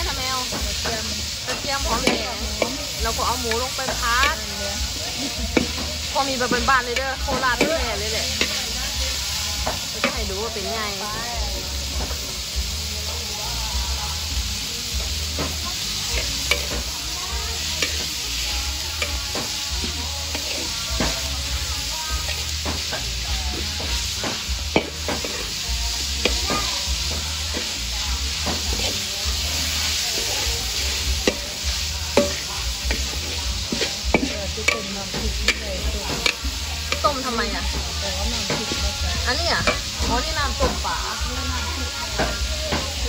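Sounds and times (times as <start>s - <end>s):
meat sizzling in a wok: 0.0s - 43.0s
metal spatula scraping wok: 0.0s - 43.0s.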